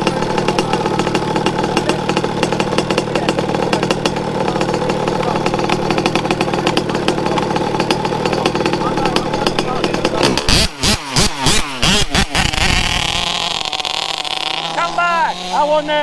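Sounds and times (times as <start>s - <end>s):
two-stroke engine putter: 0.0s - 16.0s.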